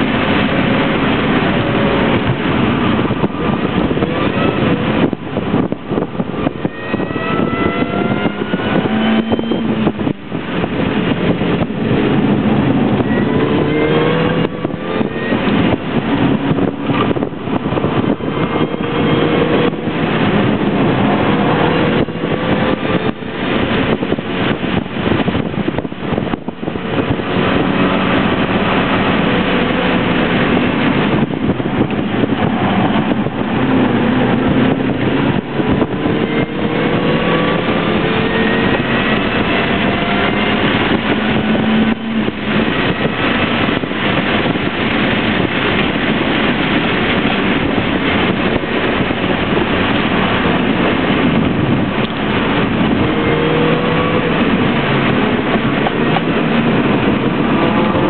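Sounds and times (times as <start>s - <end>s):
car engine accelerating: 0.0s - 58.0s
wind noise: 0.0s - 58.0s.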